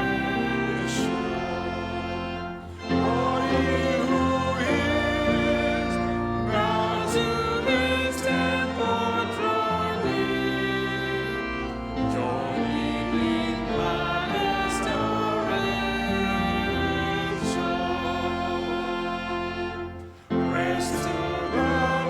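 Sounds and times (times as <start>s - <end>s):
congregation singing a hymn: 0.0s - 22.0s
instrumental accompaniment: 0.0s - 22.0s.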